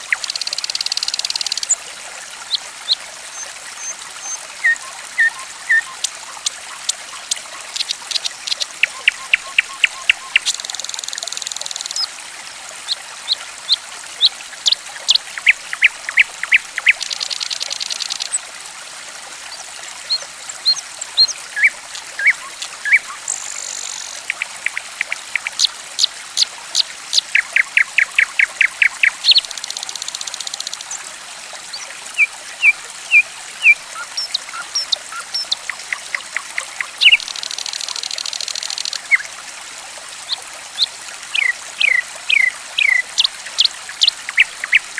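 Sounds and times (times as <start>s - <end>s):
water trickling: 0.0s - 44.9s
songbird chirps: 2.5s - 12.1s, 12.9s - 18.4s, 20.1s - 31.0s, 31.7s - 39.3s, 40.2s - 44.9s.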